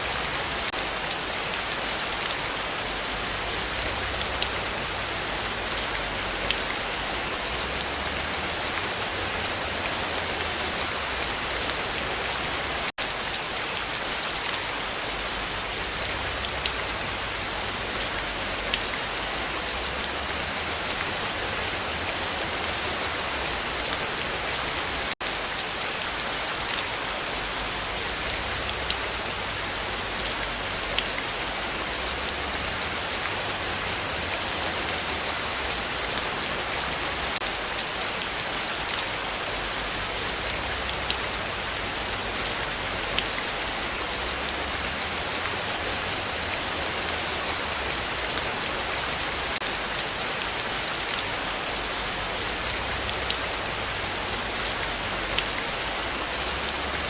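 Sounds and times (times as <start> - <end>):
heavy rain hiss: 0.0 - 57.0.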